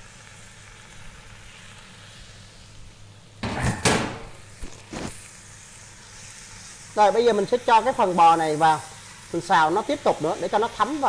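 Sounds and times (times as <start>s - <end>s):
beef sizzling in a pot: 0.0s - 11.0s.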